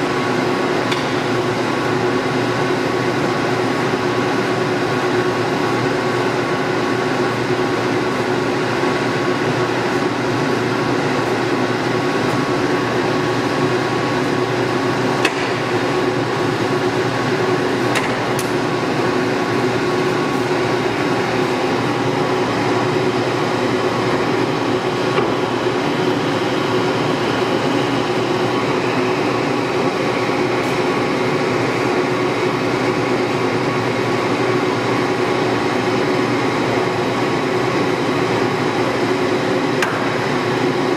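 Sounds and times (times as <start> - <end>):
lathe running with steady hum: 0.0 - 40.9.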